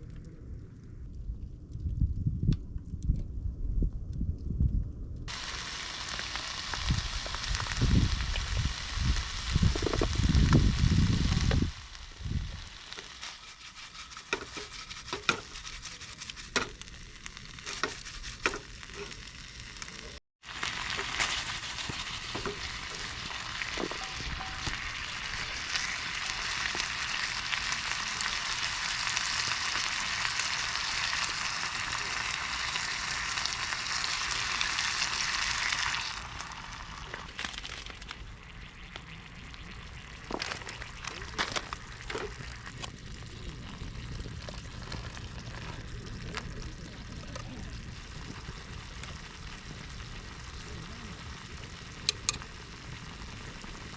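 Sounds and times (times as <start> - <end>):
food sizzling and crackling: 5.3 - 53.9.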